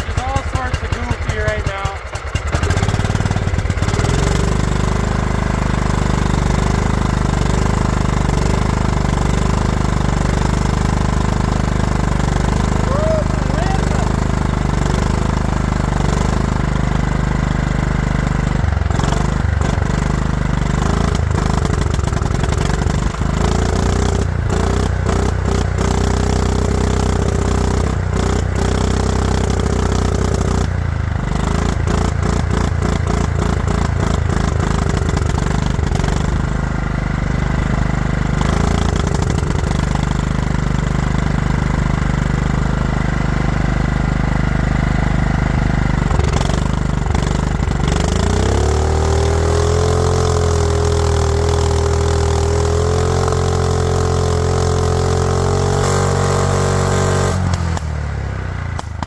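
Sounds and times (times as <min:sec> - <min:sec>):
lawn mower engine running unevenly: 0:00.0 - 0:59.0.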